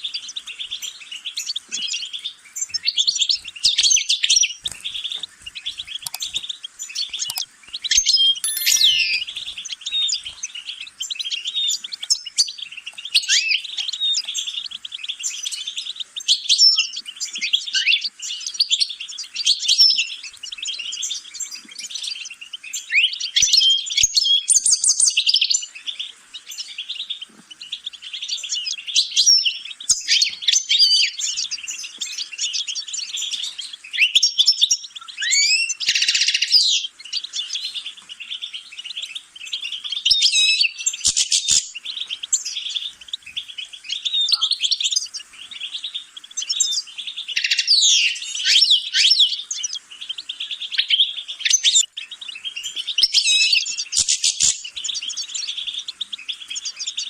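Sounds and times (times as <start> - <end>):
goldfinch twittering song: 0.0 - 57.0.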